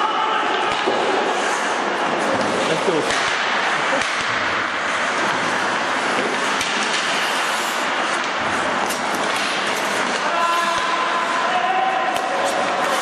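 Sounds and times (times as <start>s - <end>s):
ice rink crowd and skates hiss: 0.0s - 13.0s.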